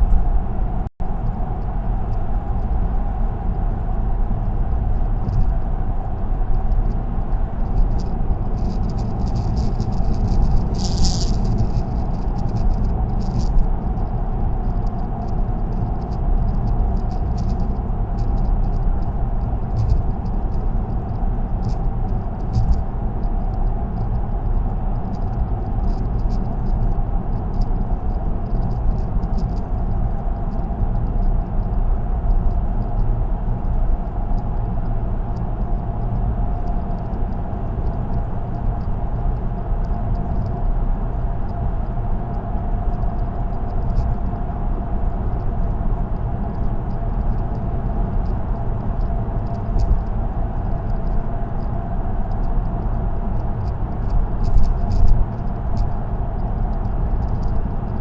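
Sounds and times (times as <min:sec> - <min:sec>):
tyre and road rumble: 0:00.0 - 0:58.0
faint ticks and rattles: 0:04.4 - 0:58.0.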